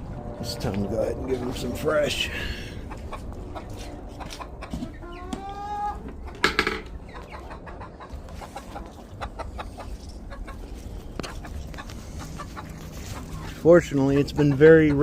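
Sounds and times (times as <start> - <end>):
chickens clucking: 0.4 - 15.0.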